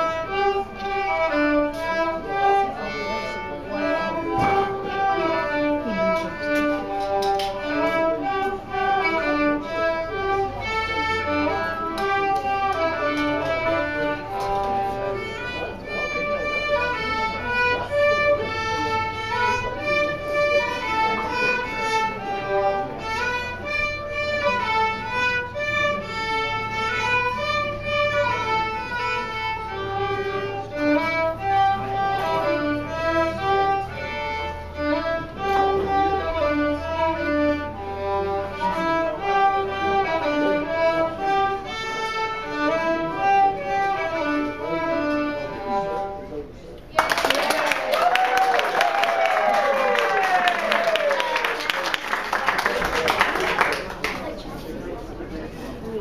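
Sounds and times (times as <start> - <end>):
violins playing: 0.0 - 46.8.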